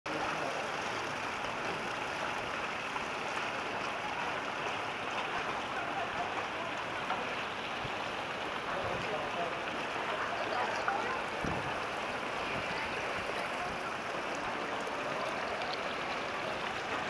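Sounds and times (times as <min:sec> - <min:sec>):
water rushing over rocks: 0:00.1 - 0:17.0.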